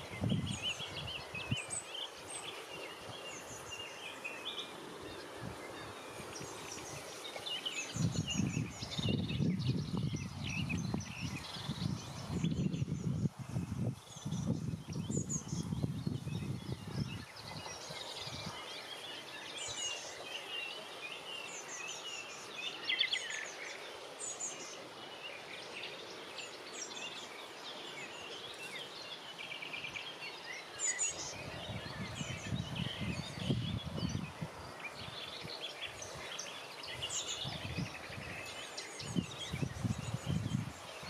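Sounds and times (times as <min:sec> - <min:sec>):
steady hiss: 0:00.0 - 0:09.1, 0:17.0 - 0:41.0
songbirds chirping and trilling: 0:00.0 - 0:41.0.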